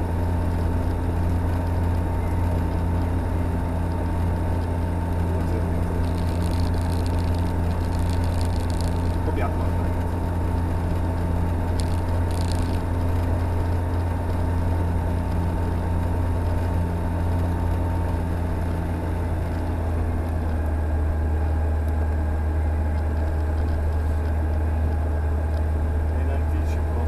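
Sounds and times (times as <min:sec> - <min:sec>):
light aircraft engine drone: 0:00.0 - 0:27.0.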